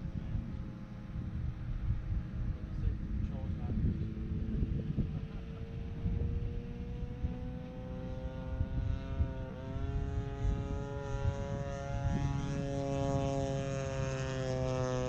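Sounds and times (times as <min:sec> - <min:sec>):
model airplane engine droning: 0:00.0 - 0:15.0.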